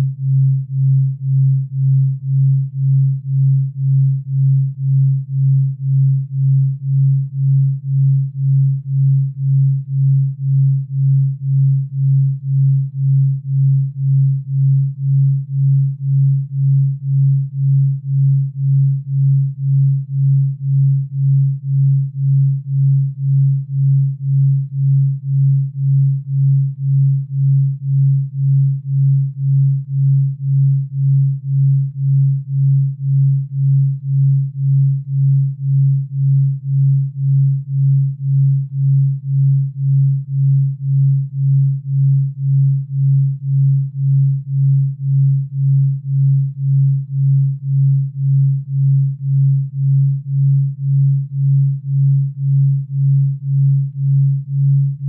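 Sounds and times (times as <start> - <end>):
low pulsing tone: 0.0 - 55.0.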